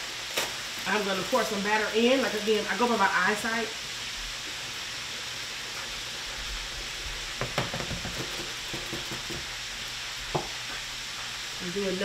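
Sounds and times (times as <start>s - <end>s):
oil frying hiss: 0.0s - 12.0s.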